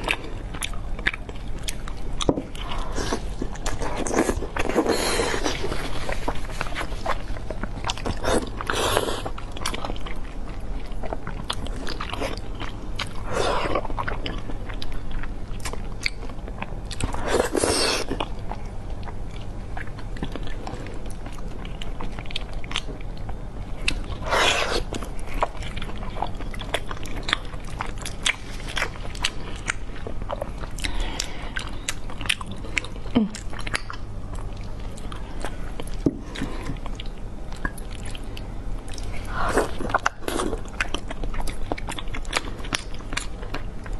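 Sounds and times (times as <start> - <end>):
close chewing and mouth sounds: 0.0 - 43.9.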